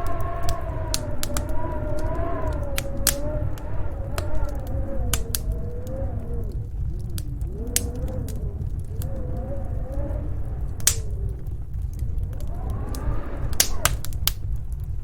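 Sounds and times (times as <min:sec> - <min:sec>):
howling storm wind: 0:00.0 - 0:15.0
steady low rumble: 0:00.0 - 0:15.0
wood fire crackling and popping: 0:00.0 - 0:15.0.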